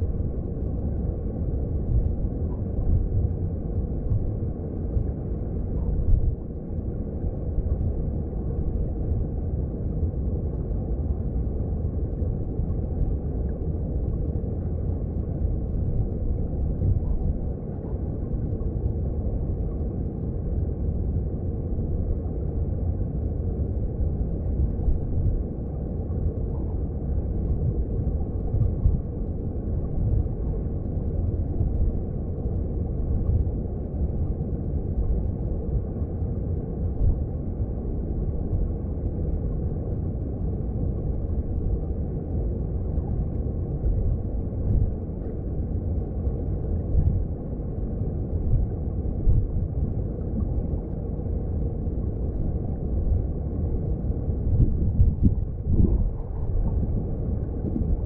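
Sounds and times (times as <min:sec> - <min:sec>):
underwater flowing water rumble: 0:00.0 - 0:58.0.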